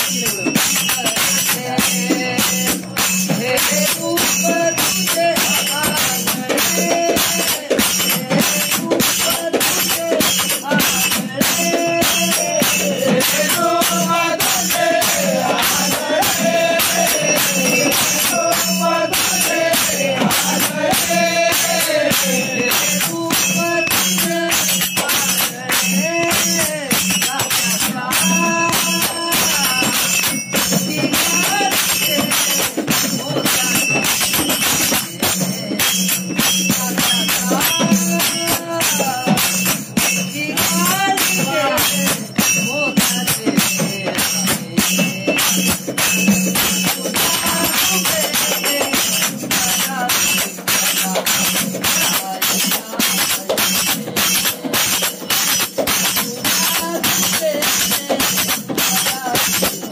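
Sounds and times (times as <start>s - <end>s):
group singing devotional song: 0.0s - 59.9s
jingling percussion: 0.0s - 59.9s.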